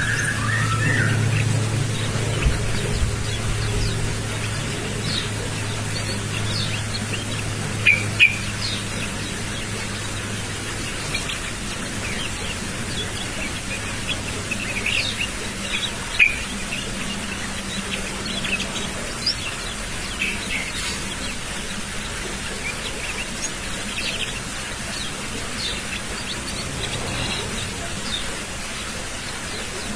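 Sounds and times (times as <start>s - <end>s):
low steady hum: 0.0s - 29.9s
young bird chirping and twittering: 0.0s - 29.9s.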